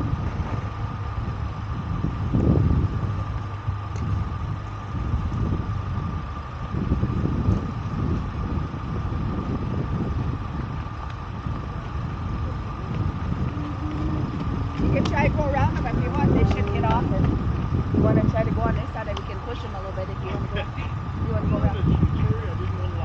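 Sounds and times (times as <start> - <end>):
engine rumbling at low speed: 0.0 - 23.0
thin steady whine: 0.0 - 23.0.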